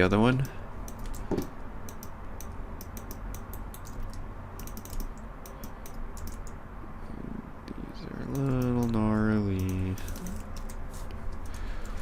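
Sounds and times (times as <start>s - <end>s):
low steady hum: 0.0s - 12.0s
keyboard and mouse clicking: 0.4s - 6.6s, 8.3s - 12.0s.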